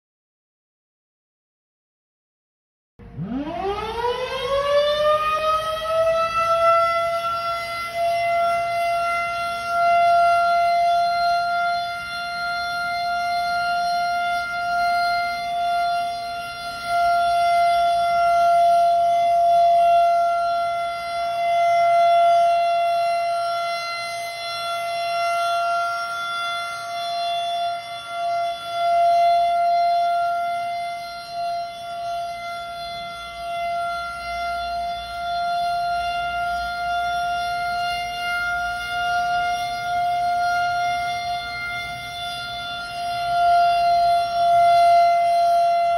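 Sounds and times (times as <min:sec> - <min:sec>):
rotating warning siren: 0:03.0 - 0:45.9.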